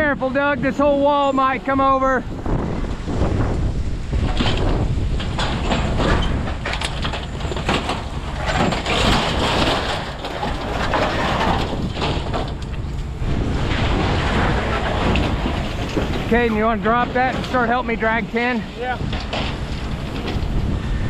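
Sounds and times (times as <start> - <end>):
low rumble: 0.0 - 21.0
tin roofing crunching and scraping: 0.0 - 21.0.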